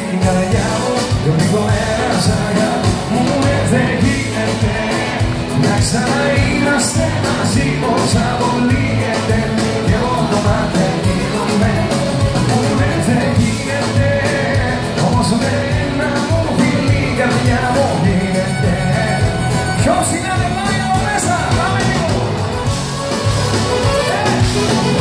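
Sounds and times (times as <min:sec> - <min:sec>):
live band playing: 0:00.0 - 0:25.0
steady drum beat: 0:00.0 - 0:25.0.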